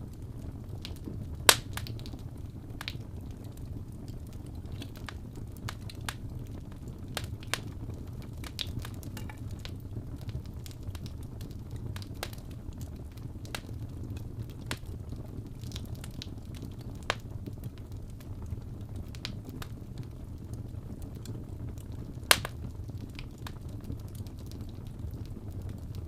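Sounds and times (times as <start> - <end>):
fire crackling: 0.0 - 26.0
fire low rumble: 0.0 - 26.0
sharp fire pops: 0.1 - 26.0.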